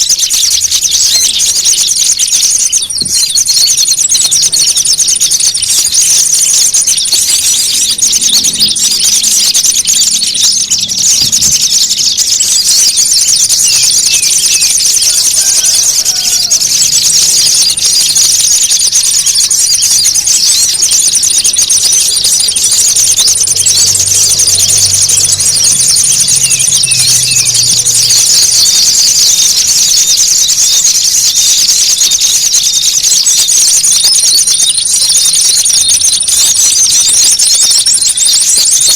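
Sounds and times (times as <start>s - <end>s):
small songbirds chattering: 0.0s - 38.9s
thin high whistling tone: 0.0s - 38.9s.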